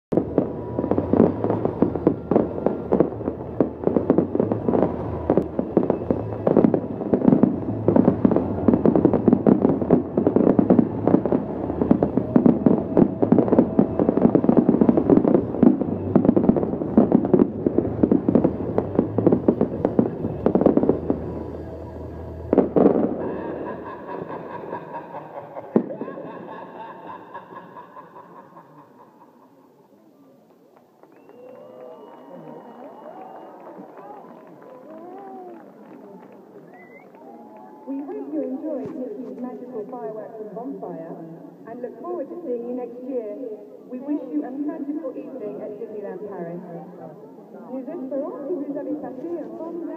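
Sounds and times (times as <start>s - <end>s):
fireworks bangs and crackles: 0.1s - 28.4s, 30.5s - 43.2s.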